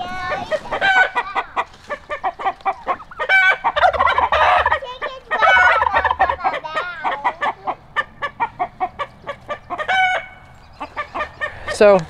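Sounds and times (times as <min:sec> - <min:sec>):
poultry flock calling: 0:00.0 - 0:12.0.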